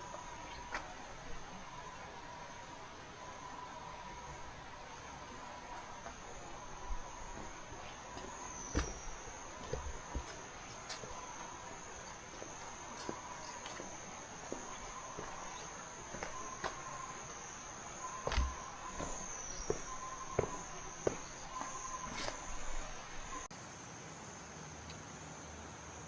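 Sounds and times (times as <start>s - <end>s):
footsteps on a trail: 0.0s - 23.5s
insects trilling: 0.0s - 26.0s
lower insect tone: 0.0s - 26.0s.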